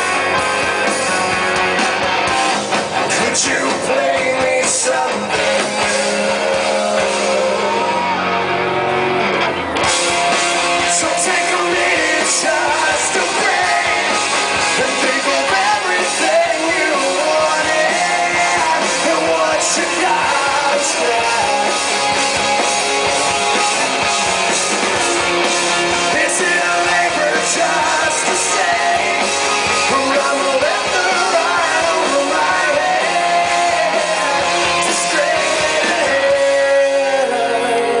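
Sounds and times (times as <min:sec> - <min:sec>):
live rock band: 0:00.0 - 0:38.0.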